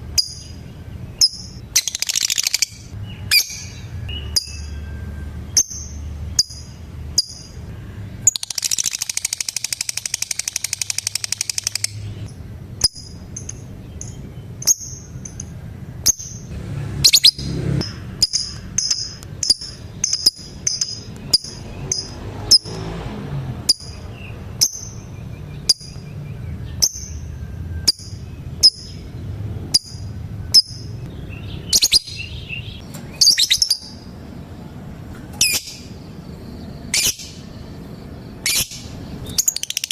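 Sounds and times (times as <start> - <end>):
lovebird high chirps: 0.1 - 22.8, 23.7 - 34.1, 35.4 - 39.9
lovebird chattering trill: 0.2 - 4.8, 8.2 - 17.5, 18.1 - 22.7, 23.7 - 29.1, 29.7 - 34.1, 35.4 - 39.9.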